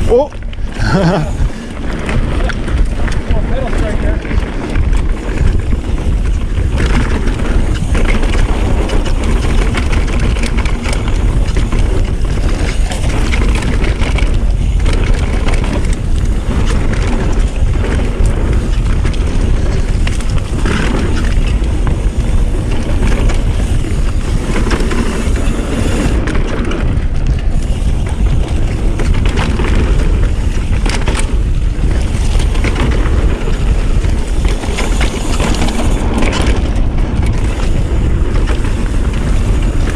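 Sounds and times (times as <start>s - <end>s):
bike clattering over bumps: 0.0s - 39.9s
tyres rumbling on dirt: 0.0s - 39.9s
wind rushing over microphone: 0.0s - 39.9s.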